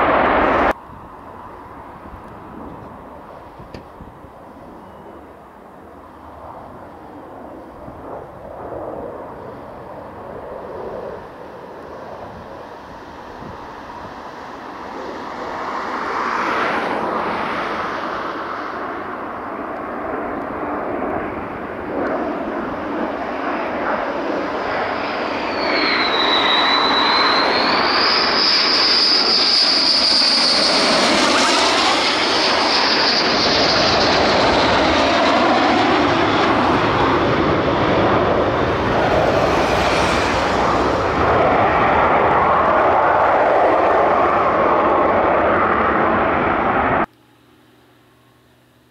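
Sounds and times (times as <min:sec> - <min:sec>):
high jet whine: 0:00.0 - 0:48.9
jet engines flying by low: 0:00.0 - 0:48.9.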